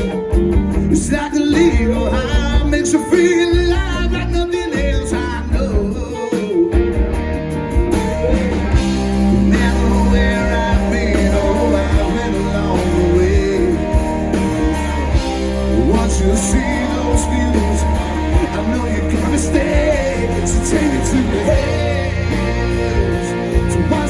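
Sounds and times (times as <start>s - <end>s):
country-rock band playing: 0.0s - 24.0s.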